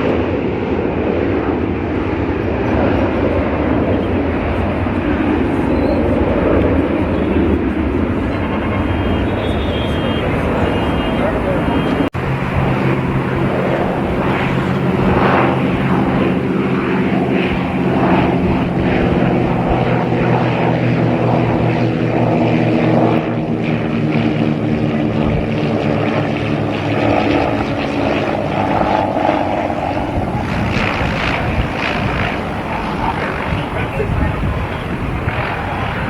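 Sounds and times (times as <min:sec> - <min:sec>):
aircraft engines droning: 0:00.0 - 0:36.0.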